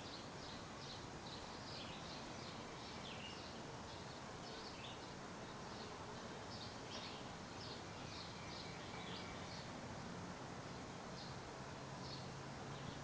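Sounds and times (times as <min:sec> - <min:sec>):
birds chirping: 0:00.0 - 0:09.8, 0:11.1 - 0:13.0
outdoor hiss: 0:00.0 - 0:13.0.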